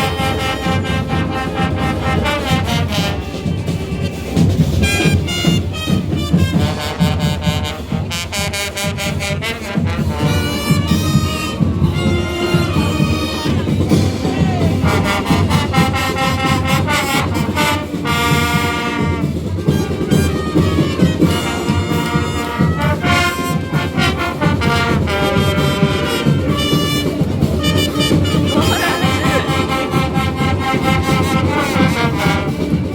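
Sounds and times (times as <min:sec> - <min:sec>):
brass instruments: 0:00.0 - 0:32.9
steady drumming: 0:00.0 - 0:32.9.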